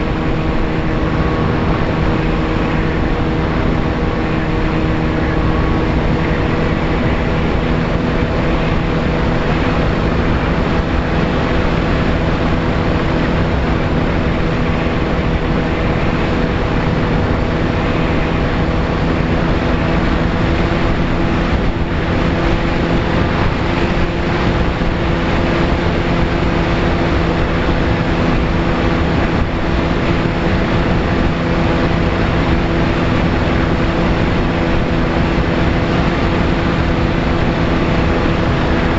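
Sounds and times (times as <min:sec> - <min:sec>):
model plane motor and propeller: 0:00.0 - 0:38.9
wind rush: 0:00.0 - 0:38.9.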